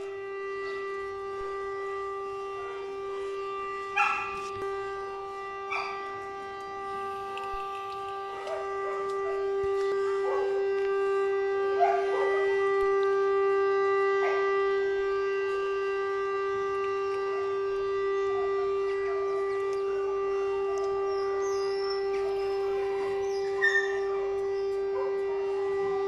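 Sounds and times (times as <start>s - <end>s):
siren steady tone: 0.0s - 26.0s.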